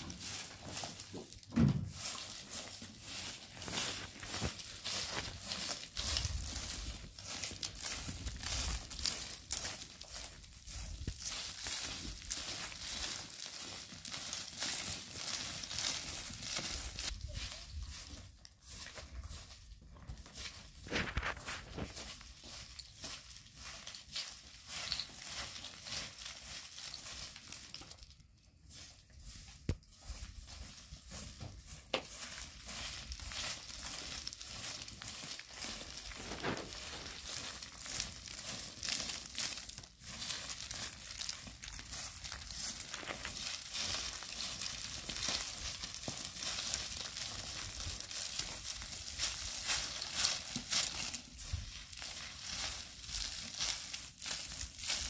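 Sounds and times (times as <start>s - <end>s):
broom sweeping gravel: 0.0s - 55.0s.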